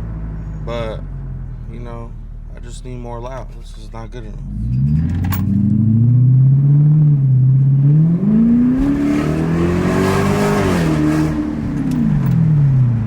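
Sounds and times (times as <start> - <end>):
car engine revving: 0.7 - 13.0.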